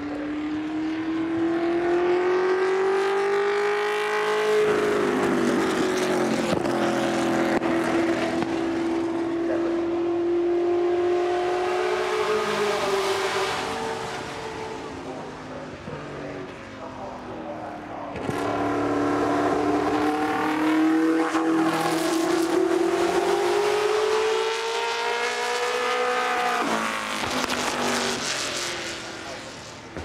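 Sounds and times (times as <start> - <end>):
racing engine at full throttle: 0.0 - 30.0.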